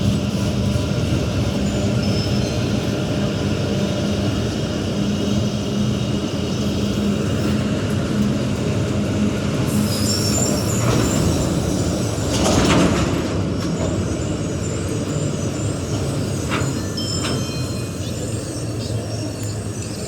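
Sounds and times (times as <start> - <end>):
freight train wagons rolling: 0.0 - 20.0.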